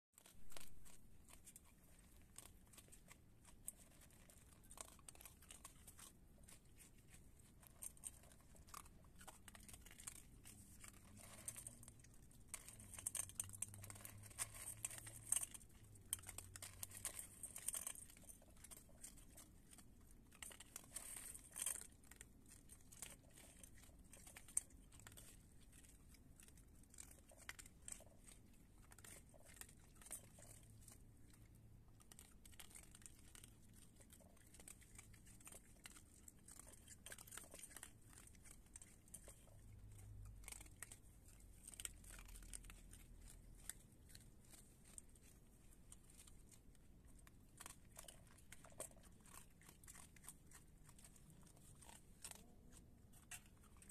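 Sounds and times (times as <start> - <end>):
animals crunching dry kibble: 0.1 - 53.9.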